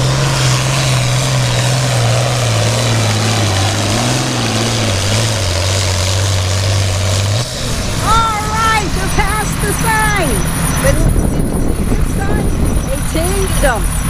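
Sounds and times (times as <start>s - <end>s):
tractor engine at full throttle: 0.0s - 14.0s.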